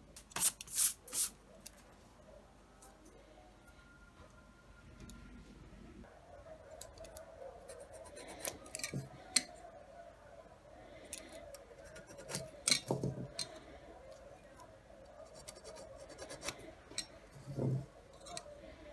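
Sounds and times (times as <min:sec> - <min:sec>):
faint steady hum: 0:01.4 - 0:18.9.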